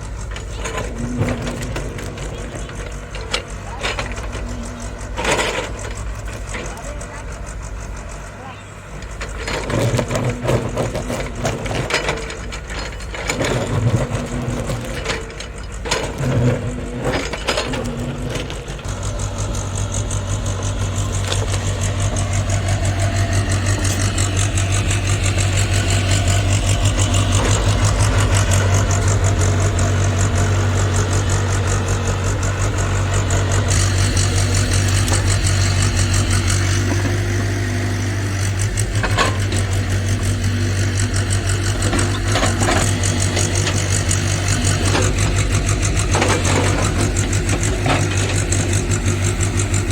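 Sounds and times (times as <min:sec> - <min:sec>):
excavator diesel engine: 0:00.0 - 0:49.9
knocks and clatter: 0:00.0 - 0:49.9.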